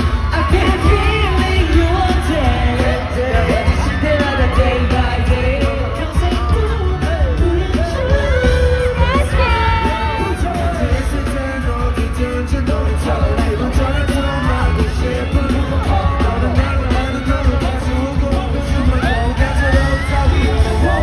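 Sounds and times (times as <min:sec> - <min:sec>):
group vocals singing: 0:00.0 - 0:21.0
pop backing track with heavy bass: 0:00.0 - 0:21.0.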